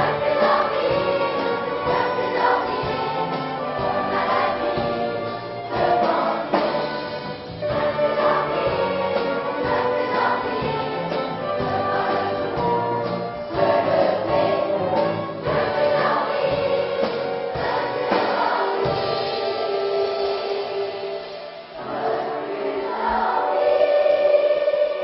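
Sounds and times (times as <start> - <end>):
children's choir singing: 0.0 - 25.0
small orchestra: 0.0 - 25.0.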